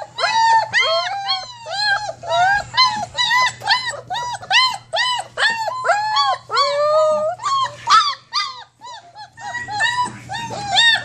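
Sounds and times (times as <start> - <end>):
puppies whimpering: 0.0 - 11.0
puppy drawn-out whine: 0.0 - 11.0.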